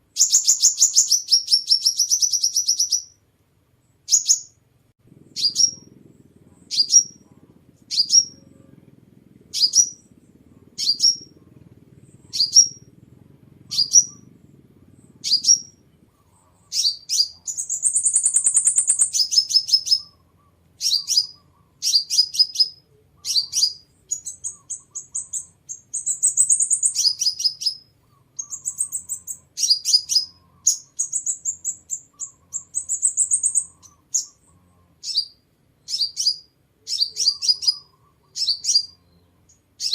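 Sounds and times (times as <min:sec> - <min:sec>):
sunbird calling: 0:00.0 - 0:03.2, 0:05.2 - 0:39.9
faint low hum: 0:00.0 - 0:39.9
sunbird trills and twittering: 0:00.1 - 0:03.2, 0:03.8 - 0:04.6, 0:05.2 - 0:39.9.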